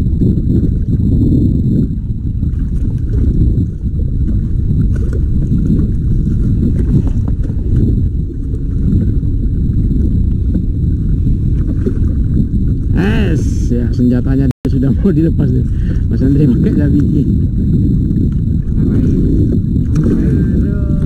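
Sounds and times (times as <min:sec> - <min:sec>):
water slapping boat hull: 0:00.0 - 0:14.0, 0:15.0 - 0:21.0
wind buffeting microphone: 0:00.0 - 0:21.0.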